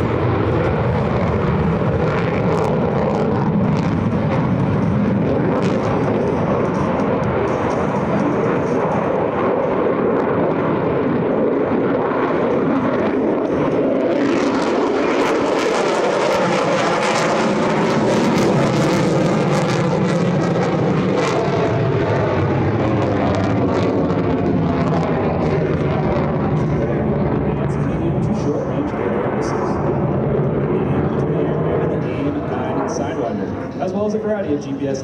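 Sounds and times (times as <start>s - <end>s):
jet engine running loud: 0.0s - 35.0s.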